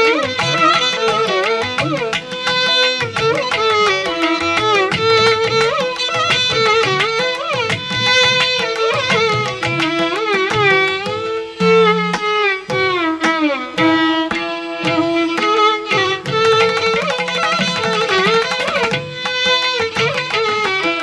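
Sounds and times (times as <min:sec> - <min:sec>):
percussion strikes: 0:00.0 - 0:21.0
string instrument melody: 0:00.0 - 0:21.0.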